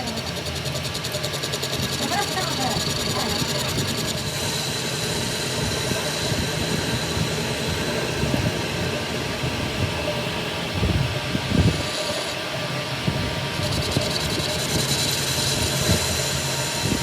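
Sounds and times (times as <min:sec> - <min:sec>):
mechanical rumble and hiss: 0:00.0 - 0:17.0
thin high whine: 0:00.0 - 0:17.0.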